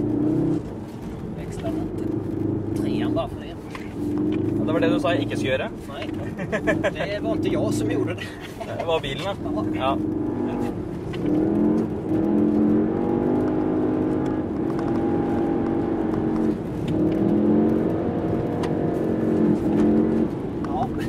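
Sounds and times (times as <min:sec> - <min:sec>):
car engine pulling hard: 0:00.0 - 0:21.0.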